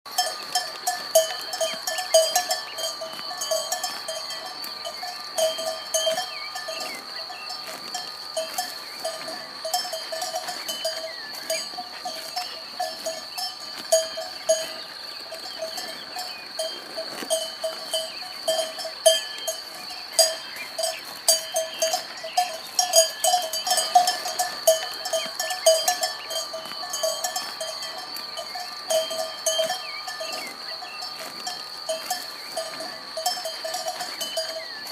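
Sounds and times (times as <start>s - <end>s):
cowbells clanking: 0.1s - 34.9s.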